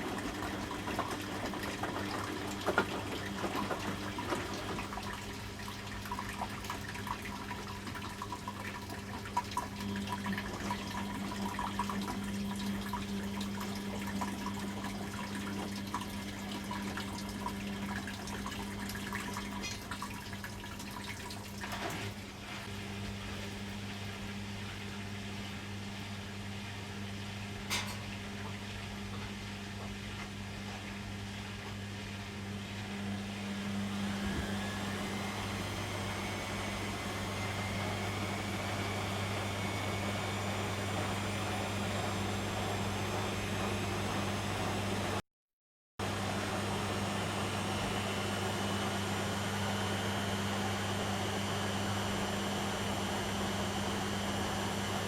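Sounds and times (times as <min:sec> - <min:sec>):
washing machine filling with water: 0:00.0 - 0:45.2, 0:46.0 - 0:55.0.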